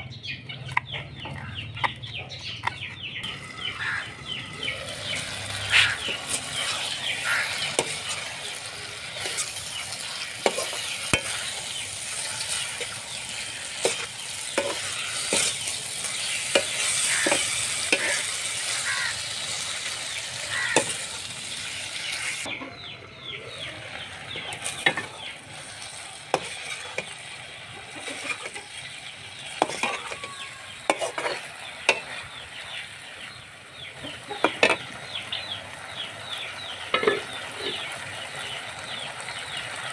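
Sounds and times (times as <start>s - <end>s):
potato slices sizzling: 3.2s - 22.5s, 23.3s - 39.9s.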